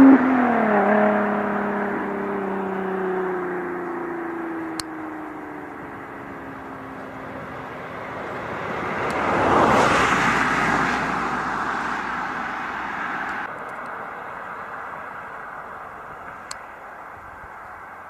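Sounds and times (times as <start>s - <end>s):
car driving past: 0.0s - 16.4s.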